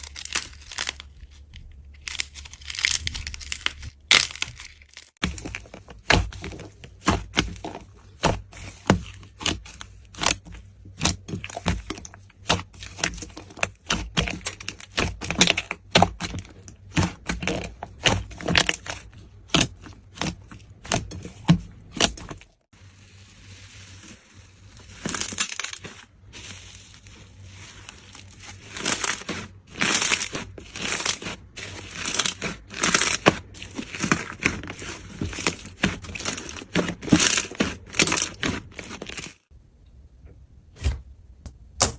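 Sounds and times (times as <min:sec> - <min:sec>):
slime crackling and popping: 0:00.0 - 0:21.1, 0:21.9 - 0:39.5.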